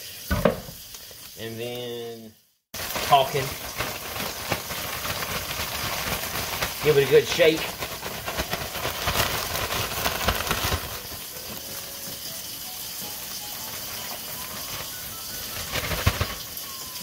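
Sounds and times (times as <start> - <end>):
faint hiss: 0.0 - 17.0
plastic bag shaken crinkling: 2.8 - 17.0.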